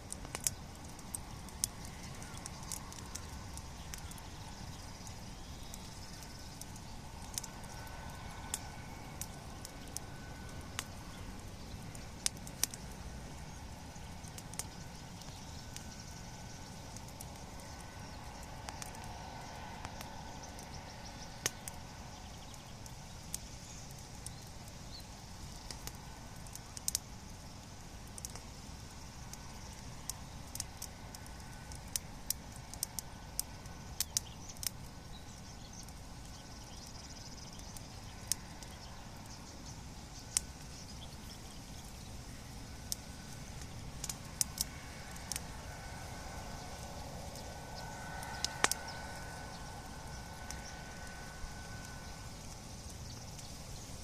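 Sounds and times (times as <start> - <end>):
bonfire crackling: 0.0 - 54.0
low background rush: 0.0 - 54.0.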